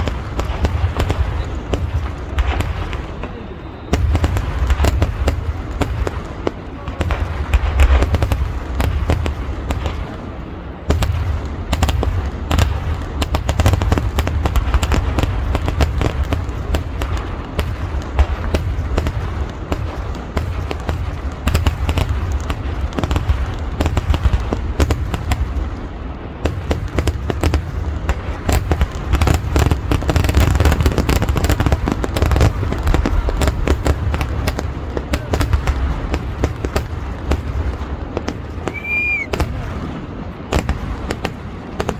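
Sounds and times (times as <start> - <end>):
firecracker bangs: 0.0 - 41.9.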